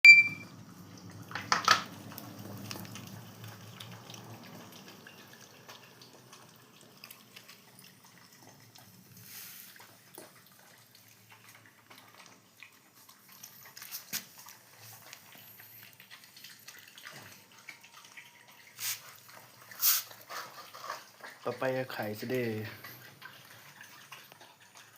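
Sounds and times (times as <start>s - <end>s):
dogs chewing fruit: 1.0s - 24.9s.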